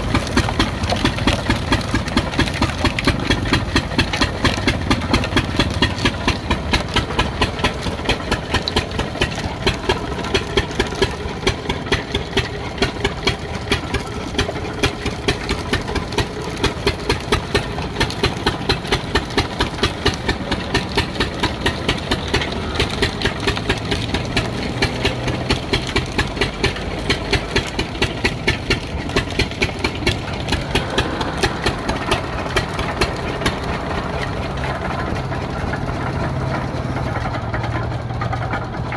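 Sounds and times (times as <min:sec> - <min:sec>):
single-cylinder diesel engine running: 0:00.0 - 0:38.9.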